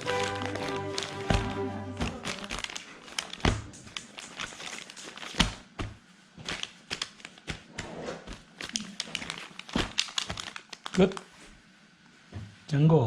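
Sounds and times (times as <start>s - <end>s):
paper and plastic crinkling: 0.0s - 11.5s.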